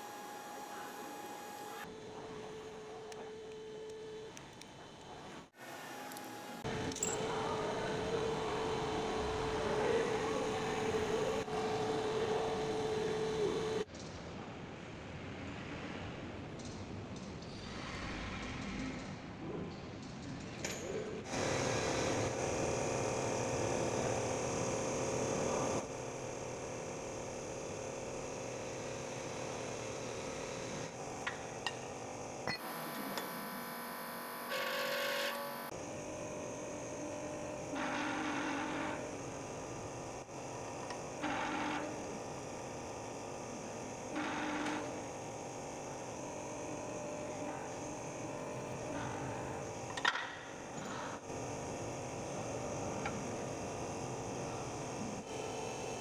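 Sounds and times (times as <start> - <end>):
electrical hum: 0.0 - 13.9, 21.3 - 56.0.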